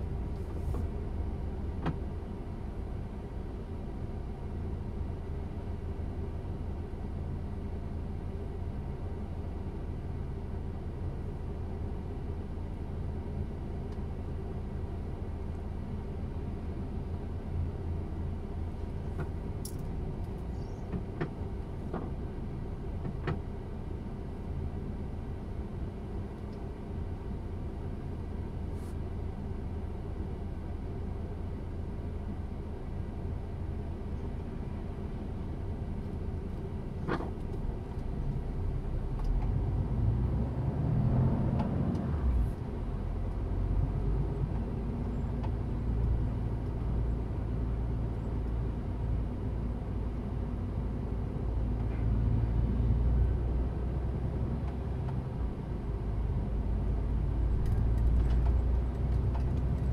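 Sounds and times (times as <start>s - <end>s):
truck engine from inside cab: 0.0s - 59.9s.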